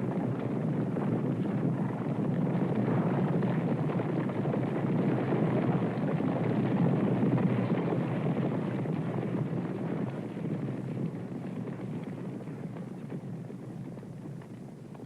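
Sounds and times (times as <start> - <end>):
horses galloping: 0.2 - 15.0.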